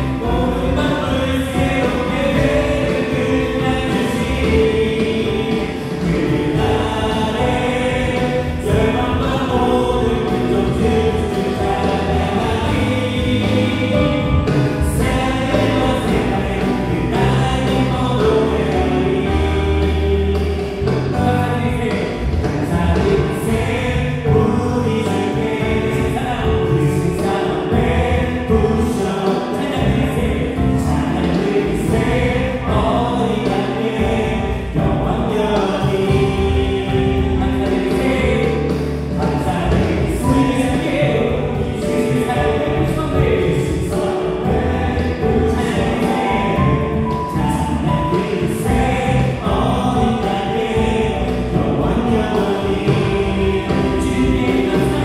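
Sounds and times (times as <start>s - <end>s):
bass guitar: 0.0s - 55.0s
drums: 0.0s - 55.0s
group of voices singing: 0.0s - 55.0s
keyboards: 0.0s - 55.0s.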